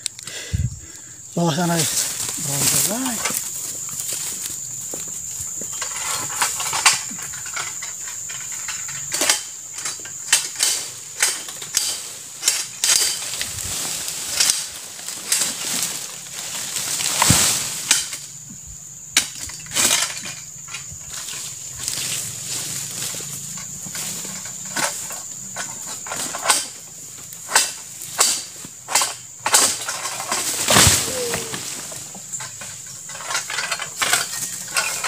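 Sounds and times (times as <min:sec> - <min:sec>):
palm fronds rustling: 0:00.0 - 0:35.0
sharp cracks and knocks: 0:01.9 - 0:18.3, 0:19.2 - 0:22.2, 0:22.8 - 0:35.0.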